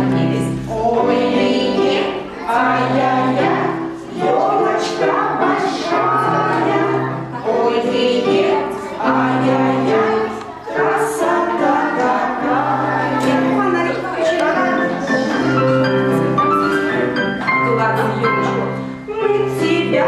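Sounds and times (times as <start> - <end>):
group of voices singing: 0.0 - 17.3
musical accompaniment: 0.0 - 20.0.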